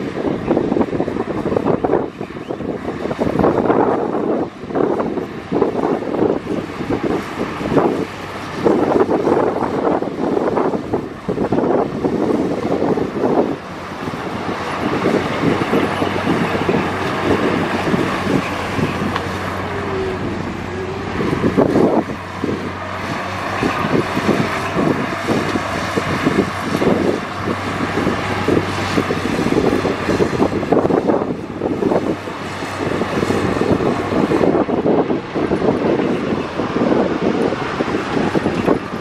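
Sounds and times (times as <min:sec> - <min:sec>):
bulldozer diesel engine running: 0:00.0 - 0:39.0
wind buffeting microphone: 0:00.0 - 0:39.0.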